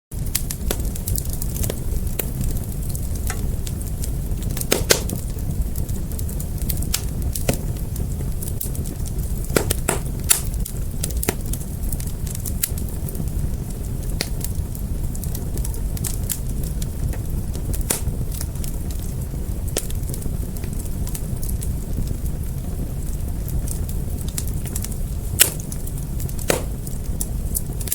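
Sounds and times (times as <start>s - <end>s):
fire flames rumbling: 0.1s - 27.9s
fire popping and crackling: 0.1s - 27.9s.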